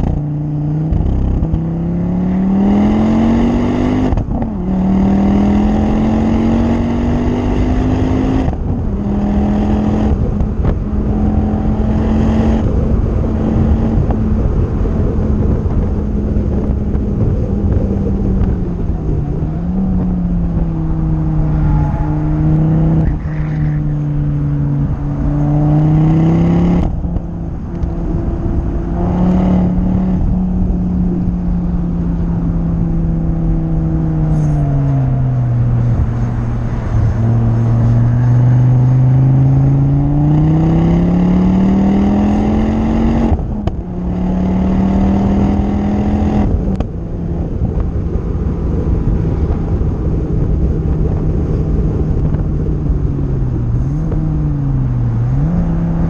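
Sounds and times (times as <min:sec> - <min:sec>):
car engine revving: 0:00.0 - 0:56.0
wind and tyre noise: 0:00.0 - 0:56.0.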